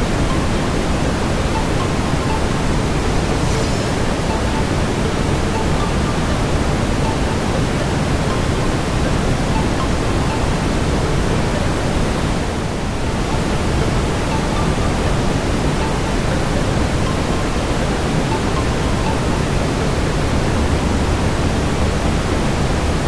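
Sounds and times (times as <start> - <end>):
brown noise hiss: 0.0 - 23.0.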